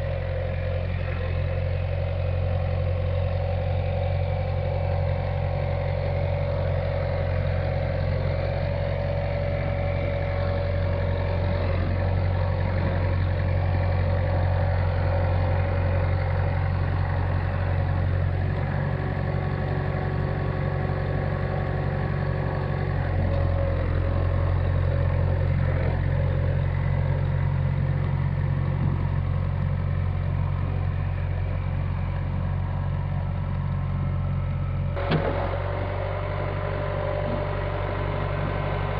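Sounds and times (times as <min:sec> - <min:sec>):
backhoe engine idling: 0:00.0 - 0:38.9.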